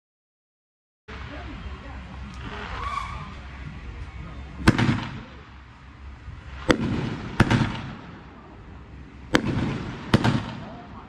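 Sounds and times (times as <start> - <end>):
firework bangs: 1.1 - 11.0.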